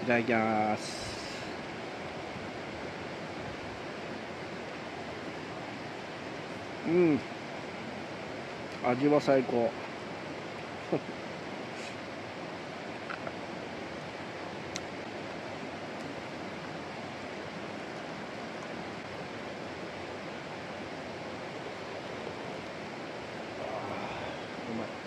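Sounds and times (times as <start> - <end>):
stream rushing: 0.0 - 25.0.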